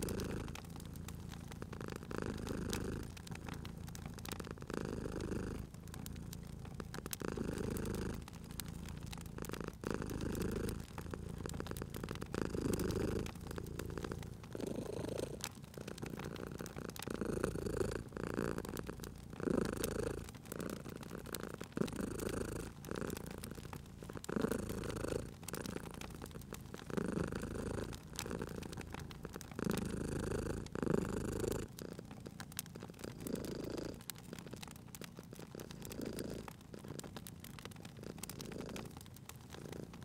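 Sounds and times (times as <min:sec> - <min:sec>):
cat purring: 0:00.0 - 0:40.0
wood fire crackling and popping: 0:00.0 - 0:40.0.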